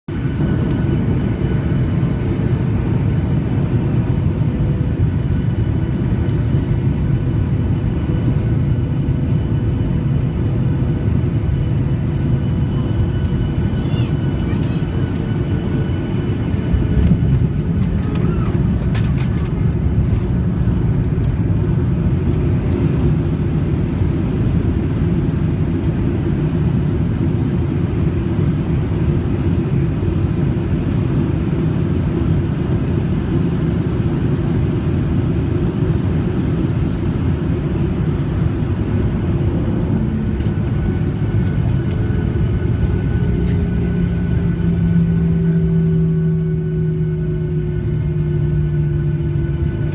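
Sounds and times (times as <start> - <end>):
aircraft cabin engine rumble: 0.1 - 49.9.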